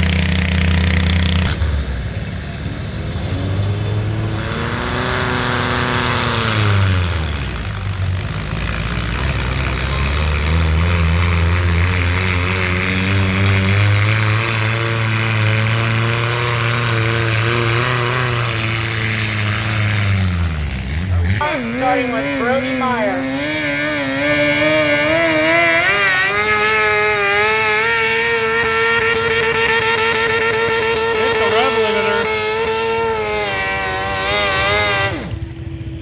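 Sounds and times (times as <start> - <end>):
tractor engine running under load: 0.0 - 36.0.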